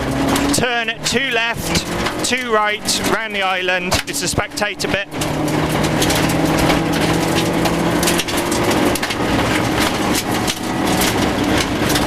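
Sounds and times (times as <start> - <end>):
gravel crackling against underbody: 0.0 - 12.0
rally car engine pulling hard: 0.0 - 12.0.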